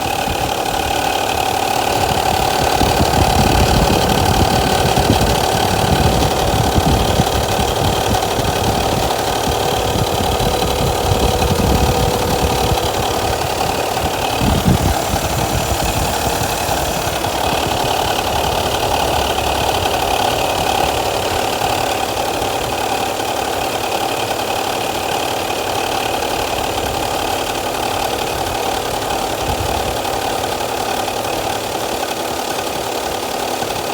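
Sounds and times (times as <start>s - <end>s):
radiator cooling fan running: 0.0s - 31.5s.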